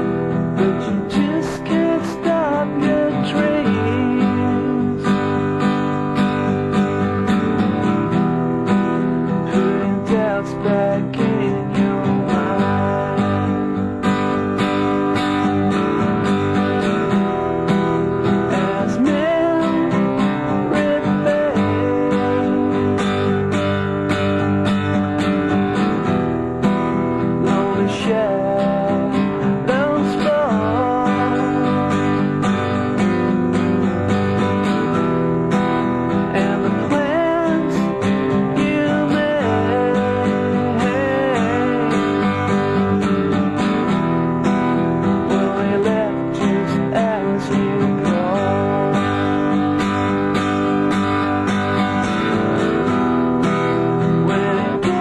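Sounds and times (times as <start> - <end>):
strummed acoustic guitar song: 0.0 - 55.0.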